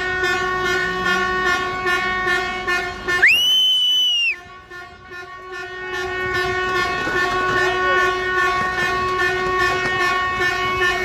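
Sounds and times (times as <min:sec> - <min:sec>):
long steady horn tone: 0:00.0 - 0:11.0.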